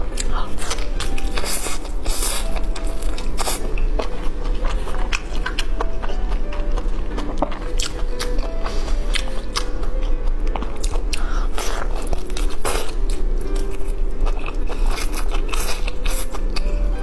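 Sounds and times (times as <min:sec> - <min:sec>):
chewing crunchy food: 0:00.0 - 0:16.8
faint background music: 0:00.0 - 0:17.0.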